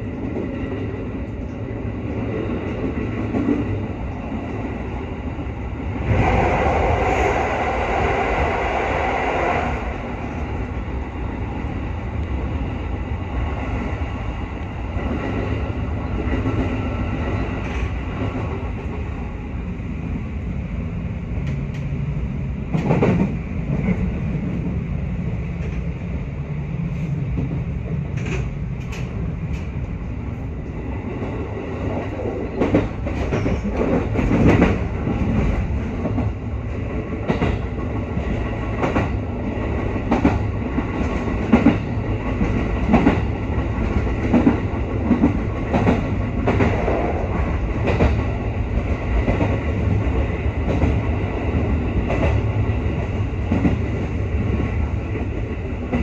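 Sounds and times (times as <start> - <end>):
train interior rumble: 0.0 - 56.0.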